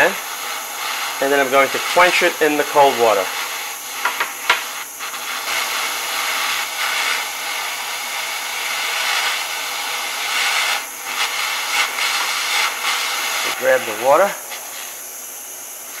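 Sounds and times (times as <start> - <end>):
torch flame hissing: 0.0 - 16.0.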